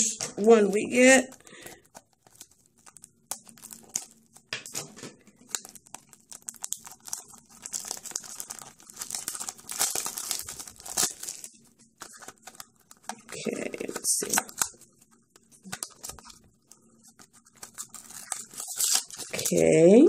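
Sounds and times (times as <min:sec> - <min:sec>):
plastic wrap crinkling and tearing: 0:00.0 - 0:20.0.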